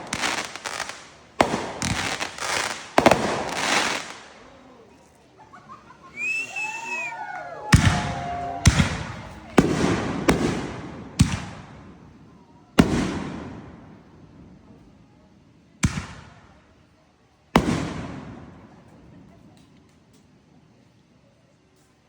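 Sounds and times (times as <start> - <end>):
fireworks bursting: 0.0 - 14.9, 15.8 - 16.8, 17.6 - 20.0.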